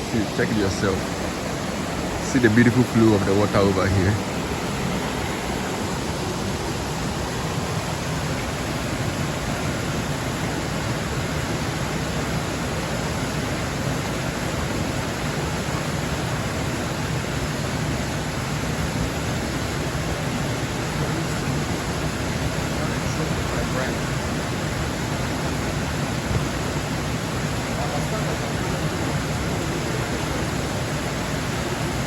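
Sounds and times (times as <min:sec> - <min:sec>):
stream water flowing: 0:00.0 - 0:32.0.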